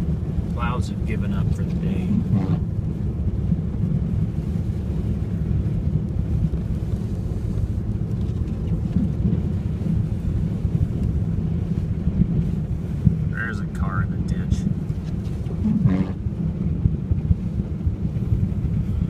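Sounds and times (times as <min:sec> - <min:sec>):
car driving cabin rumble: 0:00.0 - 0:19.0.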